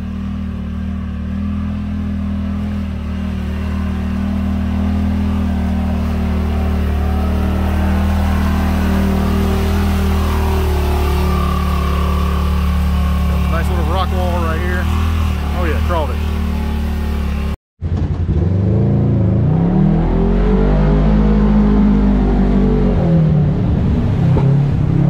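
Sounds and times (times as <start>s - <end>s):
off-road vehicle engine climbing: 0.0s - 25.0s.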